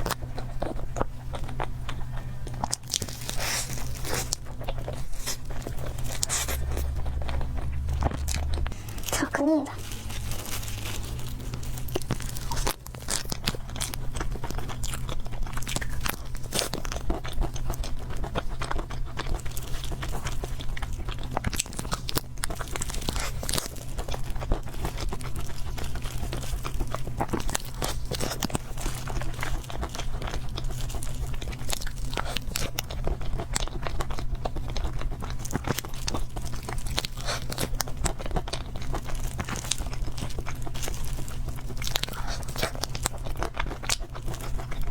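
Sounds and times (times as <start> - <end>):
person chewing cake: 0.0 - 44.9
steady low hum: 0.0 - 44.9.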